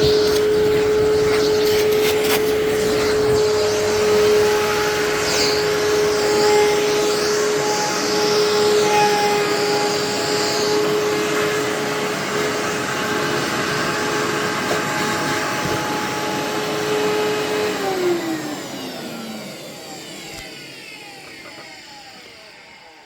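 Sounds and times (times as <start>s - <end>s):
vacuum motor whine: 0.0s - 23.0s.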